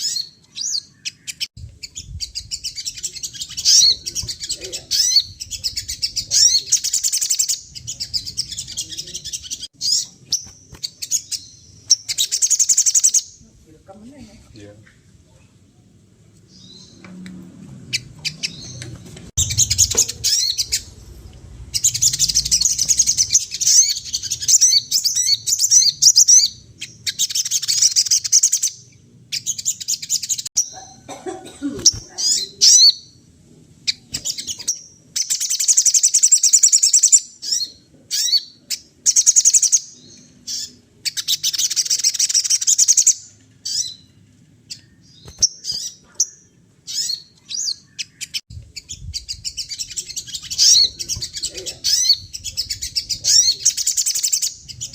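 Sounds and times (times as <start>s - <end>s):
songbird chattering song: 0.0s - 13.6s, 17.9s - 31.2s, 31.8s - 54.9s.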